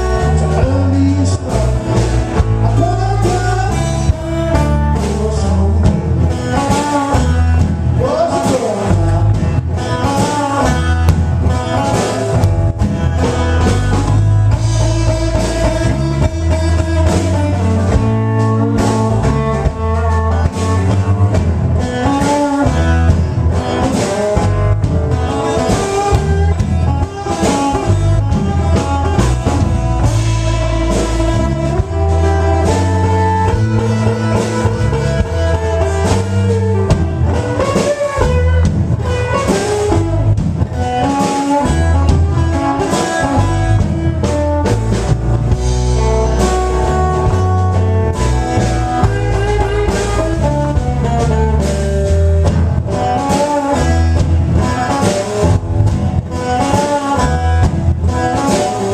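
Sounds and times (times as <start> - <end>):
pulsing bass line: 0.0 - 8.3, 8.9 - 53.2, 53.8 - 56.6, 57.2 - 58.9
drum kit: 0.0 - 58.9
electric guitar: 0.0 - 58.9.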